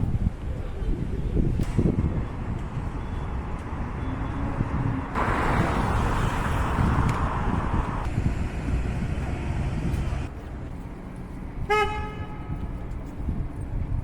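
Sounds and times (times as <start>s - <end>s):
city road traffic rumble: 0.0s - 14.0s.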